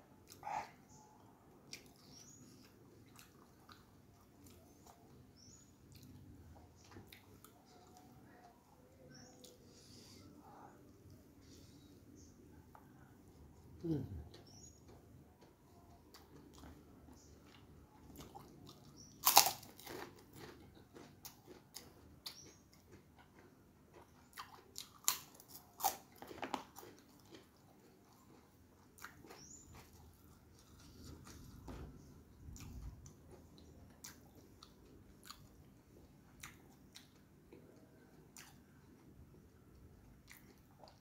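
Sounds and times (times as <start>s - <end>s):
person chewing food: 0.1s - 41.0s.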